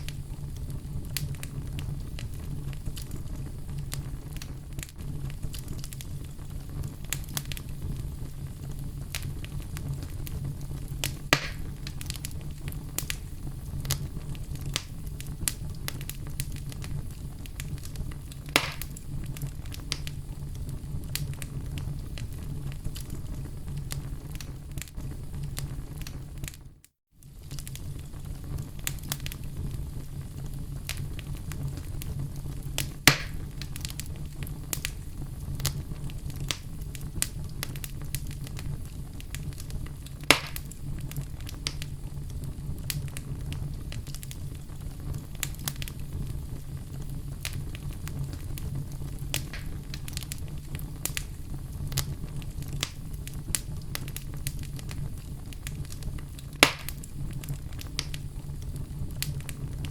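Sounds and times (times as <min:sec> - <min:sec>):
fire sharp pops: 0:00.0 - 0:59.9
wood fire crackling: 0:00.0 - 0:59.9.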